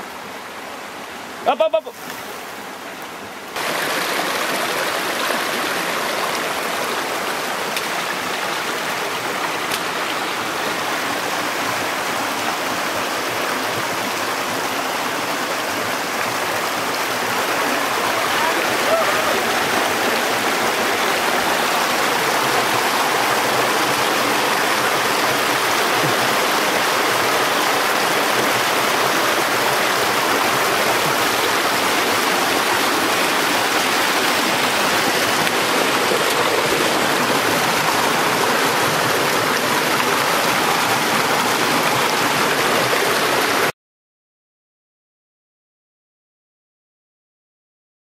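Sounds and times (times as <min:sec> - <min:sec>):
river water rushing: 0:00.0 - 0:43.7.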